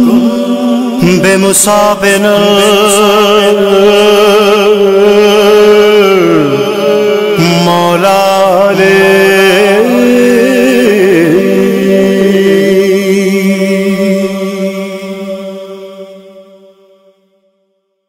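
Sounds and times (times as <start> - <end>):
man chanting wordlessly: 0.0 - 15.9
steady drone: 0.0 - 16.3.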